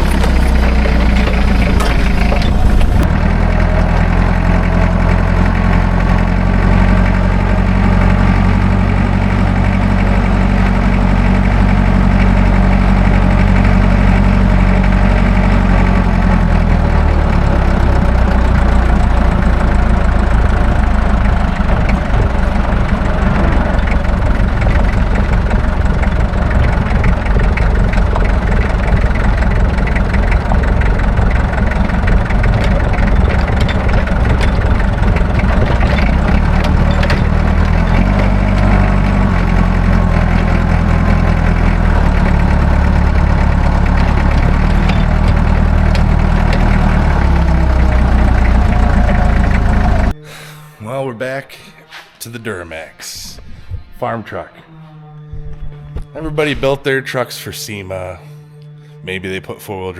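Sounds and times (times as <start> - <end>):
light rapid ticking: 0.0 - 50.1
engine idling: 0.0 - 50.8.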